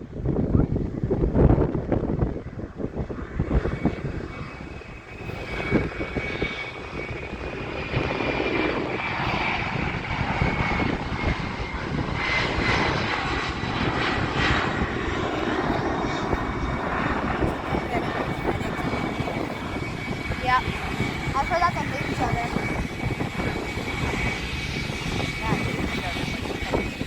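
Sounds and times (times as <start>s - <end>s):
jet engines whining and roaring: 0.0s - 27.0s
wind buffeting microphone: 0.0s - 27.0s.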